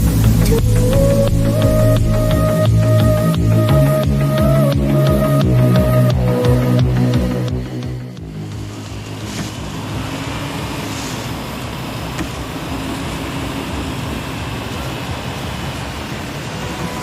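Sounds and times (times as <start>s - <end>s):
rushing tyre noise: 0.0s - 17.0s
vehicle engine running: 0.0s - 17.0s.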